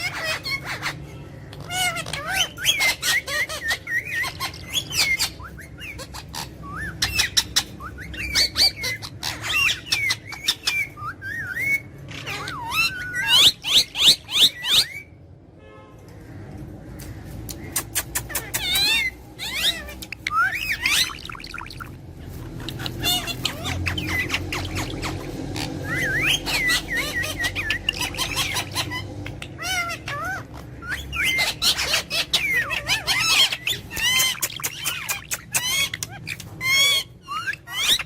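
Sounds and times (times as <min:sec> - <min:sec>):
parrot chattering whistles and chirps: 0:00.0 - 0:15.2, 0:17.5 - 0:38.0.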